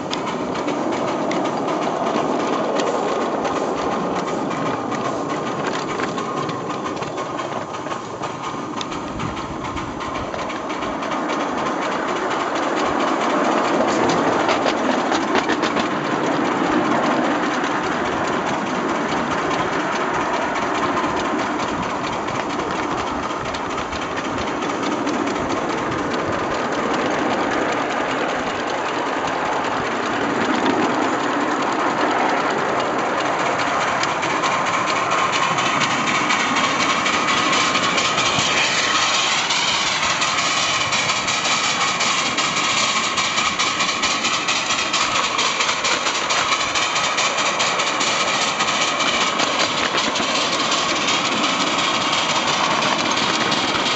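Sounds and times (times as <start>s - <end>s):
steam locomotive chuffing: 0.0s - 53.9s
wheel and rail noise: 0.0s - 53.9s.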